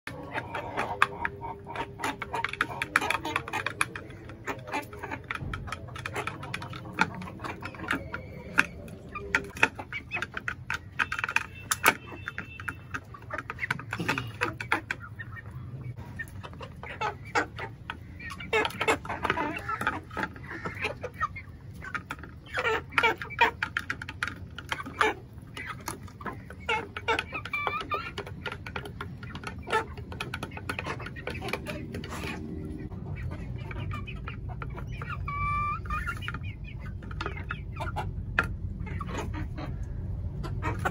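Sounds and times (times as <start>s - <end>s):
chickens clucking: 0.0s - 40.9s
beaks pecking feed: 0.1s - 40.9s.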